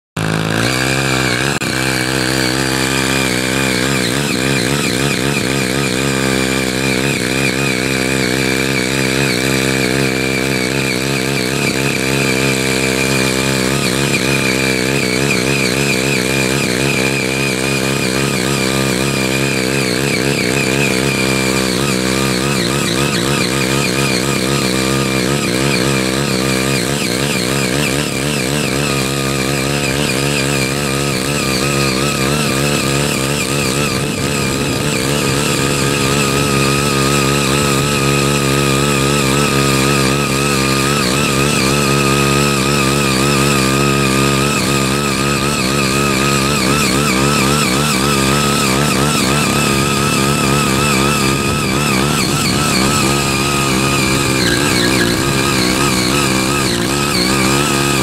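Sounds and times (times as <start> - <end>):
small petrol engine under load: 0.0 - 58.0
tiller tines tilling soil: 0.0 - 58.0.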